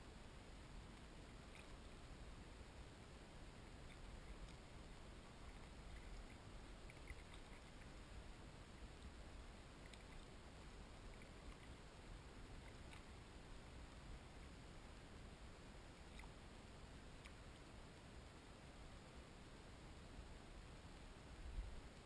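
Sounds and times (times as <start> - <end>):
faint hiss and low rumble: 0.0 - 22.0.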